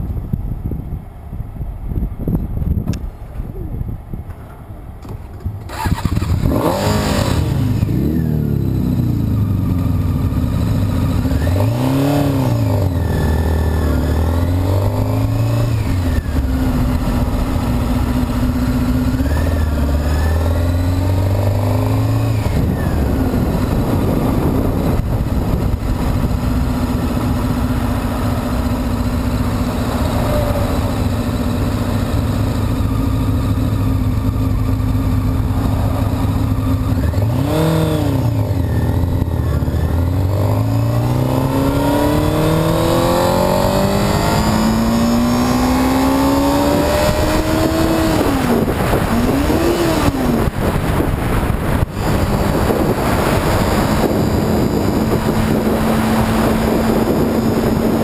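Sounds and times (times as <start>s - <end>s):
motorcycle engine accelerating: 5.4s - 58.0s.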